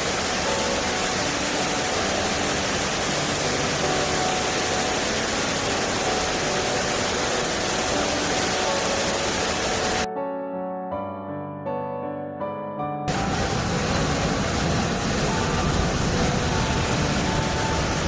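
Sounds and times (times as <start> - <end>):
waterfall roaring: 0.0 - 10.1, 13.1 - 18.0
soft piano music: 0.0 - 18.0.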